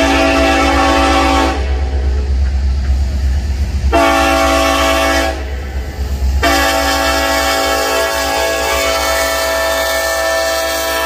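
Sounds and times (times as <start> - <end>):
train air horn blasts: 0.0 - 2.2, 3.9 - 11.0
train rumbling: 0.0 - 11.0.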